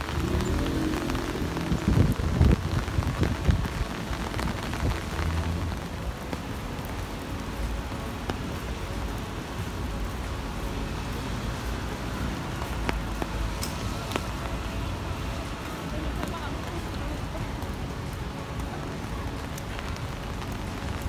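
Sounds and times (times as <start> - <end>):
heavy rain falling: 0.0 - 21.0
low rumble of city traffic: 0.0 - 21.0
raindrop ticks: 0.0 - 21.0.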